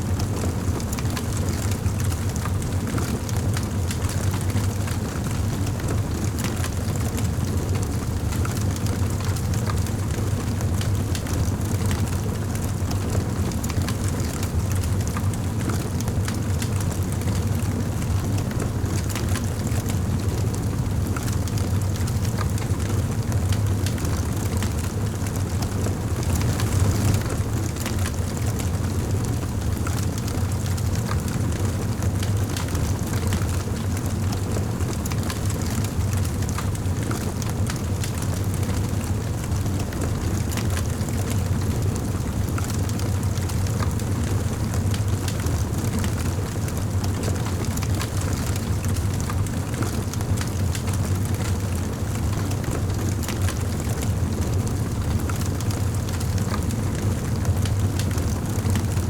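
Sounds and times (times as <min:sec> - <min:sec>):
low rumble of flames: 0:00.0 - 0:59.0
wood fire crackling and popping: 0:11.0 - 0:59.0.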